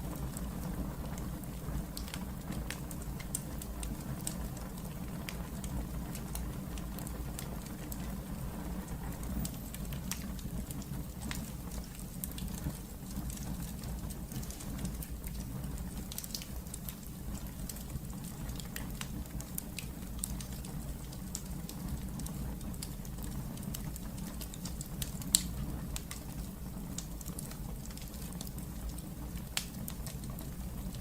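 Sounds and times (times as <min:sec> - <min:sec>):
fire crackling: 0:00.0 - 0:31.0
fire flames rumbling: 0:00.0 - 0:31.0.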